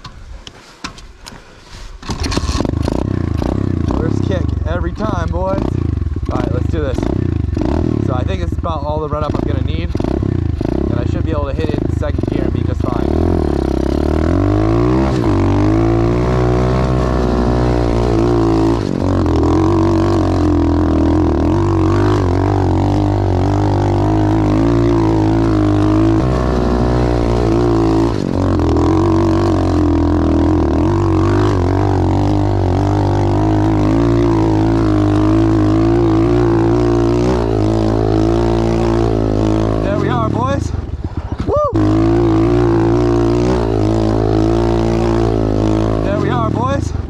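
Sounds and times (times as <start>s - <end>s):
motorbike engine revving hard: 2.0s - 47.0s.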